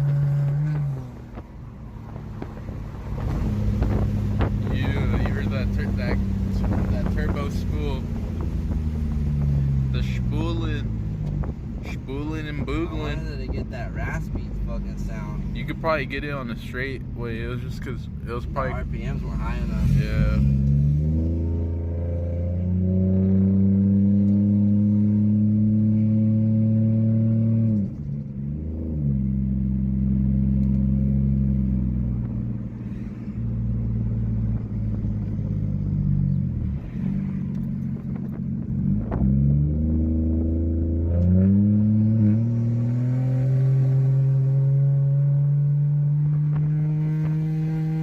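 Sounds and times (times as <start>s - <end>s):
car engine droning: 0.0s - 48.0s.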